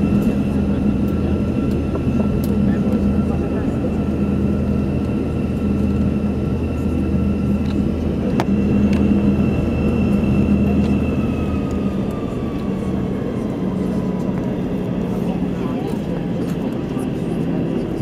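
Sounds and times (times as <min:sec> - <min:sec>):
high whining tones: 0:00.0 - 0:17.4
jet engine cabin rumble: 0:00.0 - 0:18.0.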